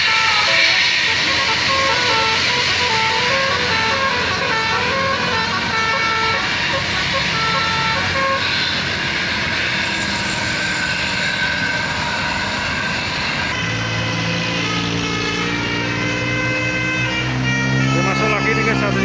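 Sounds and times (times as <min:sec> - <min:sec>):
bus engine: 0:00.0 - 0:19.0
road noise: 0:00.0 - 0:19.0.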